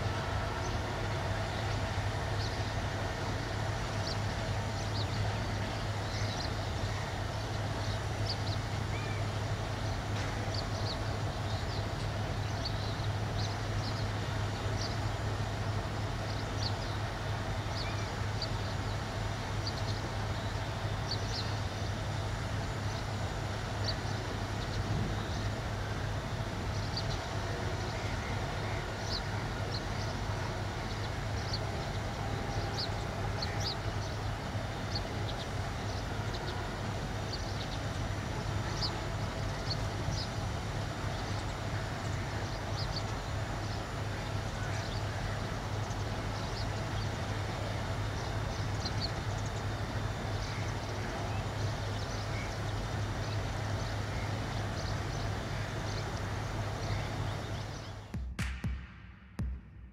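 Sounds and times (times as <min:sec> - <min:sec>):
train rumbling: 0:00.0 - 0:58.1.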